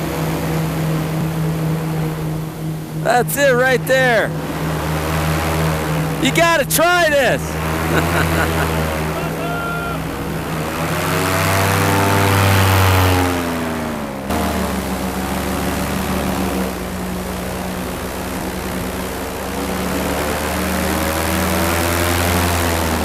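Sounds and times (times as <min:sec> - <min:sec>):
paramotor engine and propeller: 0:00.0 - 0:23.0.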